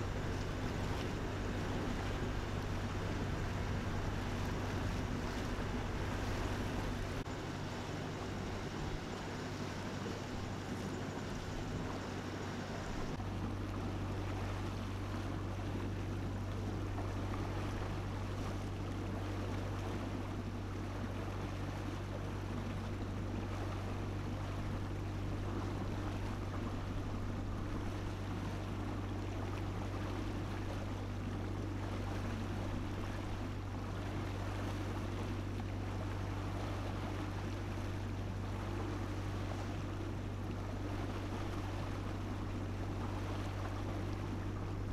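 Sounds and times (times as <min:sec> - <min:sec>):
boat engine droning: 0:00.0 - 0:44.9
water churning in wake: 0:00.0 - 0:44.9.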